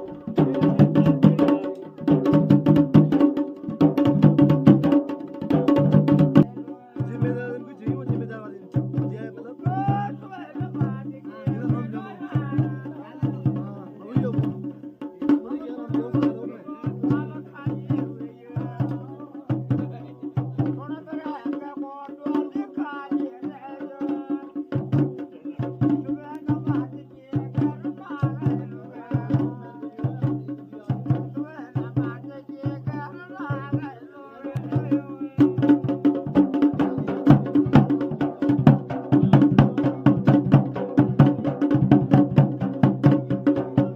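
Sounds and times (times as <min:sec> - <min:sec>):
drums in a fast rhythm: 0:00.0 - 0:43.9.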